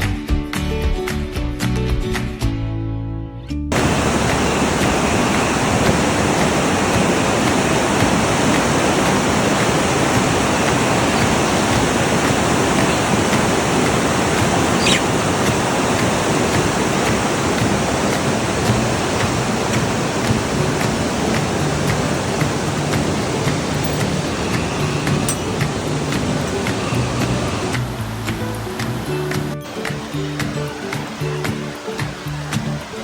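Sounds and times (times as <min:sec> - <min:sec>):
fast flowing water rushing: 0:03.7 - 0:33.0.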